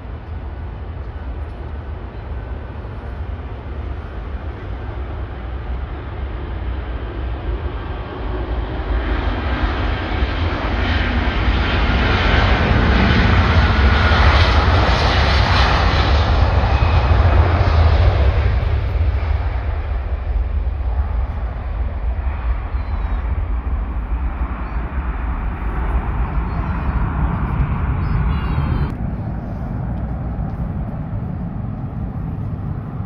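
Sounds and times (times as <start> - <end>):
jet engines at takeoff power: 0.0 - 33.0.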